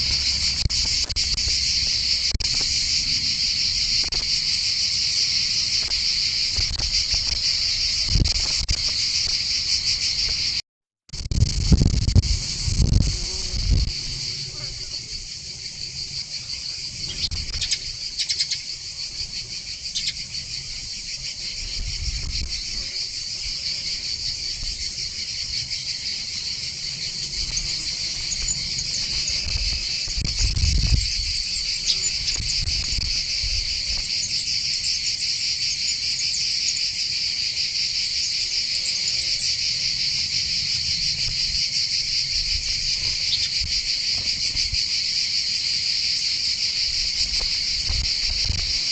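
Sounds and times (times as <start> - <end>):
high-pitched insect chorus: 0.0 - 10.6, 11.2 - 48.9.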